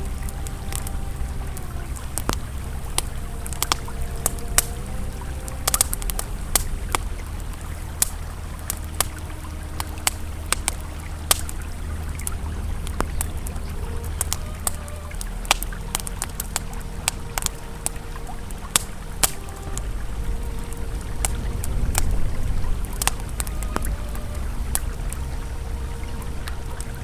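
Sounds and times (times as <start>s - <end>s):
campfire crackling and popping: 0.0s - 27.0s
river flowing: 0.0s - 27.0s.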